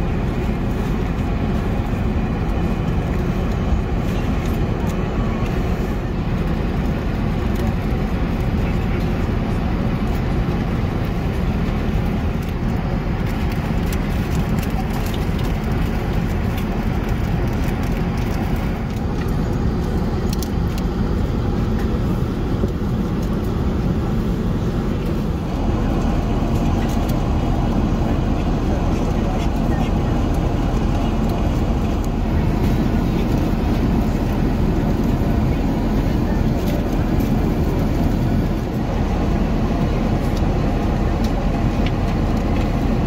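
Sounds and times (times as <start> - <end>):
airplane cabin drone: 0.0 - 43.0.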